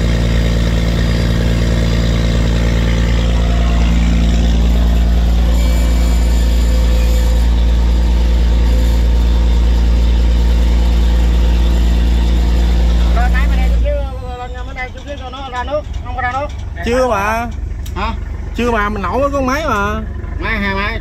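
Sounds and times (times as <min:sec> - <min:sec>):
barge engine droning: 0:00.0 - 0:21.0.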